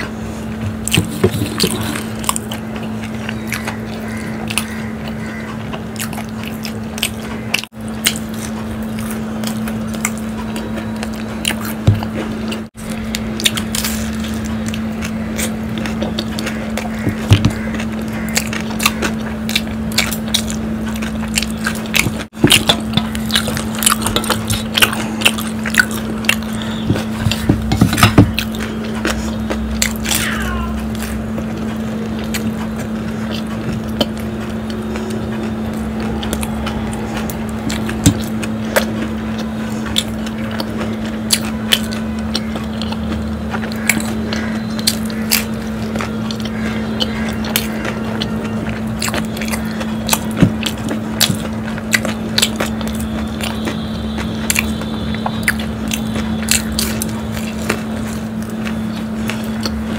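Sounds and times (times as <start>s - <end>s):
crisp bites and chewing: 0.0s - 59.9s
steady low hum: 0.0s - 59.9s.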